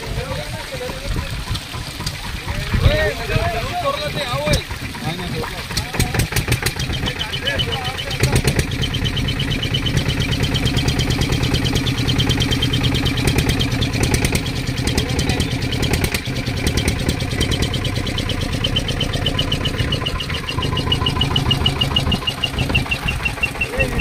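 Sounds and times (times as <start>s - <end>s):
boat engine chugging: 0.0s - 24.0s.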